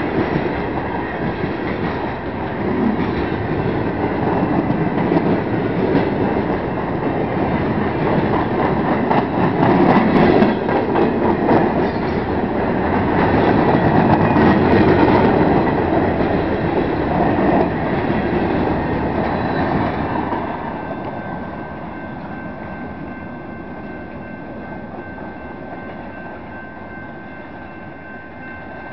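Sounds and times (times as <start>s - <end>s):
freight train wheels clacking on rails: 0.0s - 27.0s.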